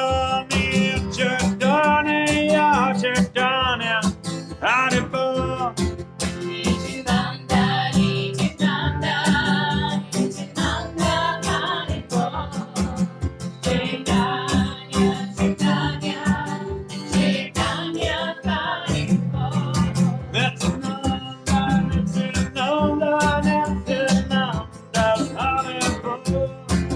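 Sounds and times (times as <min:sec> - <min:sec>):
acoustic guitar strumming: 0:00.0 - 0:26.9
voices singing: 0:04.6 - 0:26.5.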